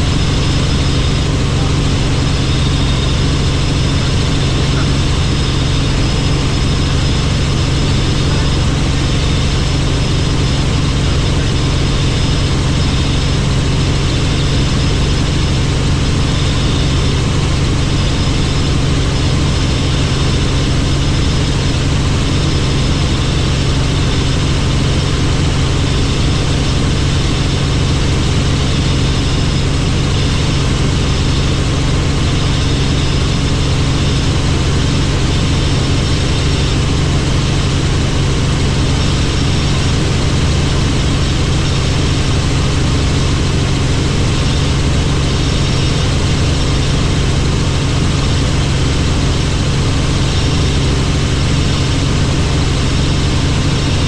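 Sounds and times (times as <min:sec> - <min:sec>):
helicopter engine and rotors: 0:00.0 - 0:54.0.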